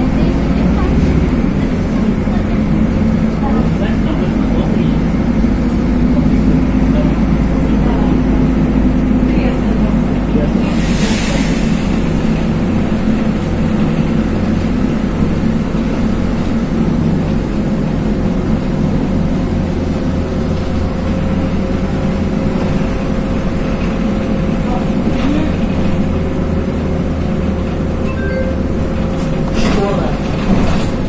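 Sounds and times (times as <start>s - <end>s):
bus engine and road noise: 0.0s - 31.0s.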